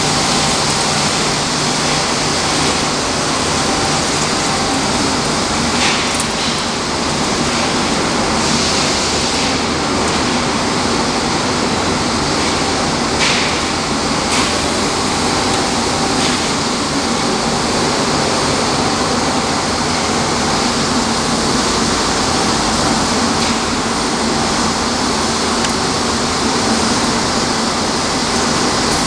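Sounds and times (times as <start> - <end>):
recycling machinery running: 0.0 - 29.0.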